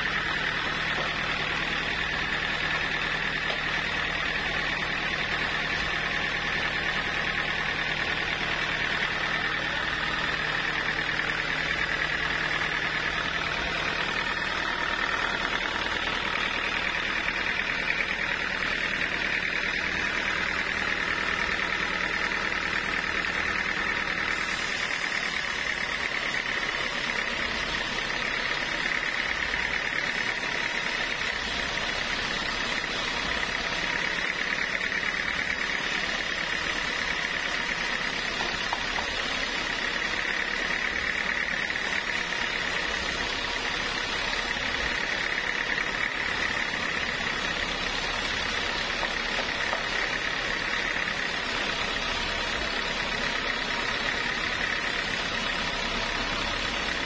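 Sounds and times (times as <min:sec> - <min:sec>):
band saw cutting log: 0:00.0 - 0:57.0
sawmill machine running: 0:00.0 - 0:57.0.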